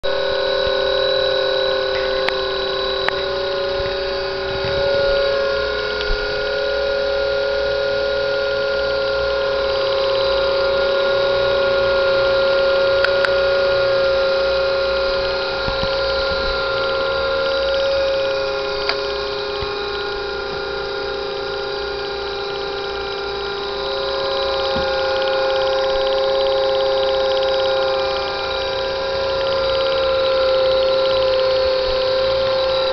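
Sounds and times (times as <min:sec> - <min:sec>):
steady electrical hum: 0:00.0 - 0:32.9.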